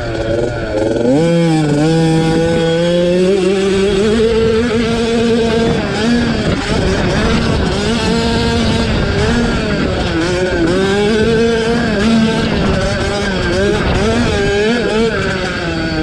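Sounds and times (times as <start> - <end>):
motocross bike engines racing: 0.0 - 16.0.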